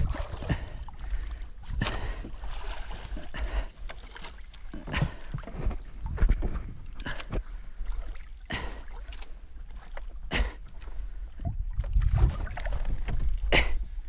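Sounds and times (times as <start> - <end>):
water splashing: 0.0 - 13.7
low rumble of wind and water: 0.0 - 14.0.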